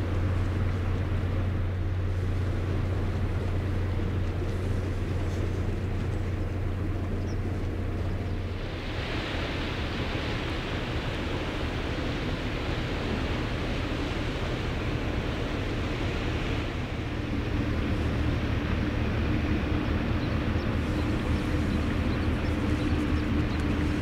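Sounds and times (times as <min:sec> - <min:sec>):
ship engine drone: 0:00.0 - 0:24.0
wind and water hiss: 0:00.0 - 0:24.0.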